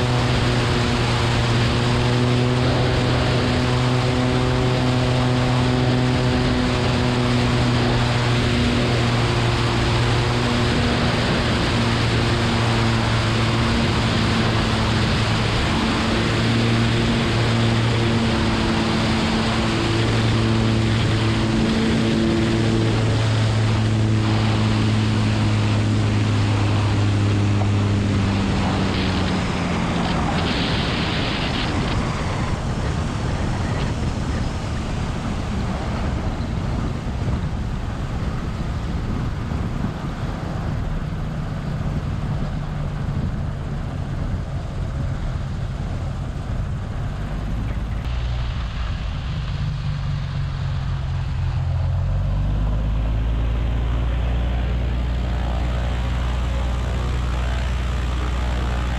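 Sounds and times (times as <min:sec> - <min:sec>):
aircraft engine and propeller: 0:00.0 - 0:58.9
wind rush: 0:00.0 - 0:58.9.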